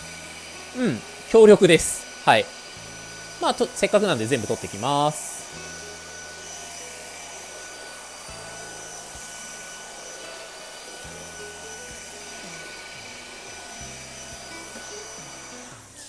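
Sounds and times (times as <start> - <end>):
cordless vacuum motor whirring: 0.0 - 16.0.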